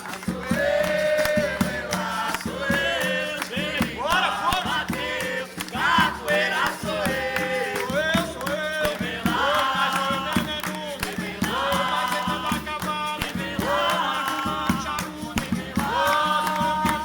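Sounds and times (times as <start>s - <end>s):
berimbau and percussion: 0.0s - 17.0s
voices singing: 0.0s - 17.0s.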